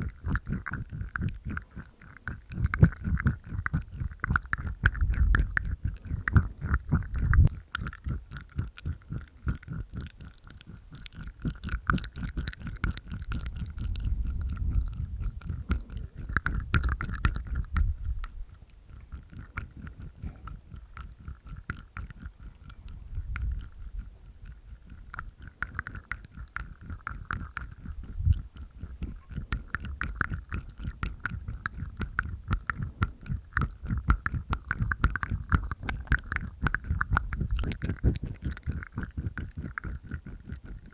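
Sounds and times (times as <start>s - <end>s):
wet mouth clicks and smacks: 0.0s - 40.9s.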